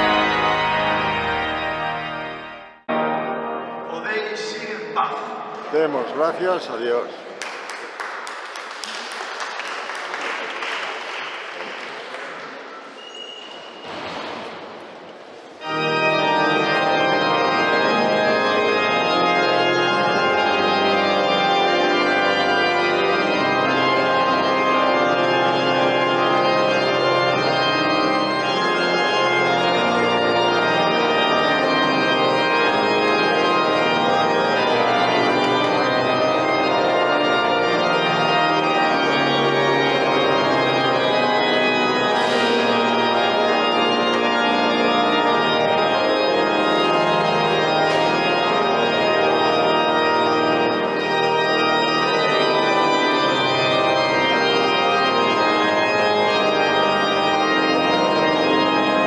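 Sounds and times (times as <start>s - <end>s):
pipe organ chords: 0.0s - 6.8s, 15.5s - 59.0s.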